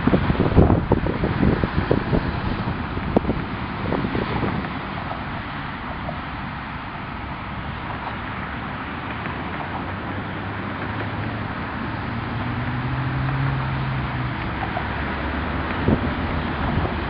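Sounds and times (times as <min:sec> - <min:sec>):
low engine hum: 0:00.0 - 0:17.0
wind noise on microphone: 0:00.0 - 0:17.0.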